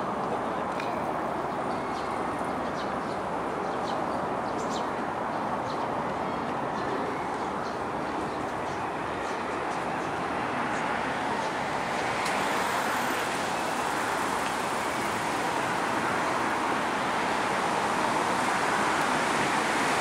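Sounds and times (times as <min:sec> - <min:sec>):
road traffic roar: 0:00.0 - 0:20.0.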